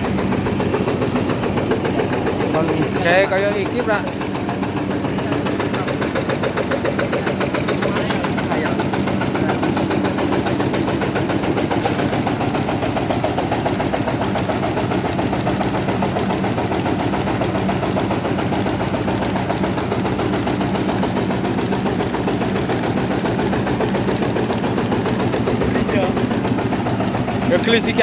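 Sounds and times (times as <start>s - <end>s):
engine hum: 0.0s - 28.0s
shredding machine clatter: 0.0s - 28.0s.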